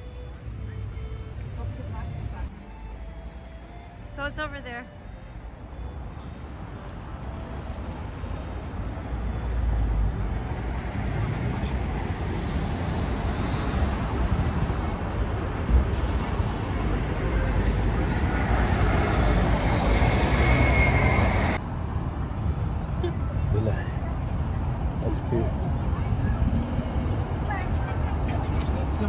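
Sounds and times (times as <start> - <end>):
car engines and tyres rumbling: 0.0 - 29.0.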